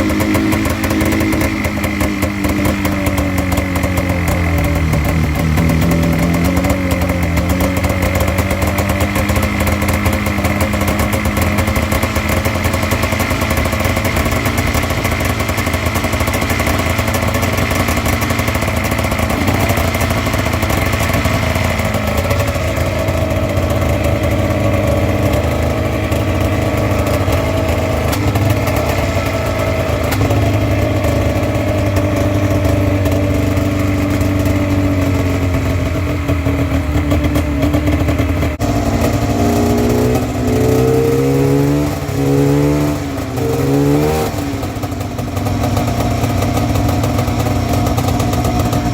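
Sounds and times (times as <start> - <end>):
snowmobile engine idling: 0.0 - 48.9.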